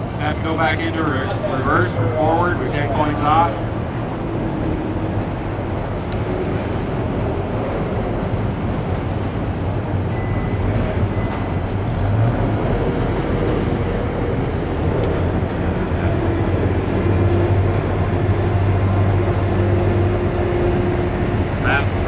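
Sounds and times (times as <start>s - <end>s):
skid steer diesel engine running: 0.0s - 22.0s.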